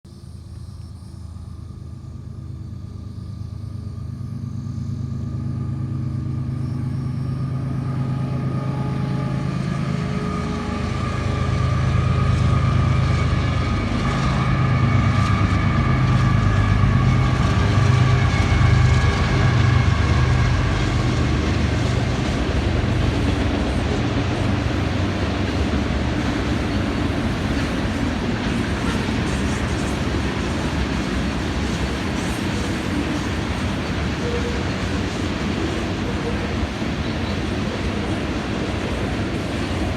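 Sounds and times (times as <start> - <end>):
diesel locomotive engine drone: 0.1 - 39.9.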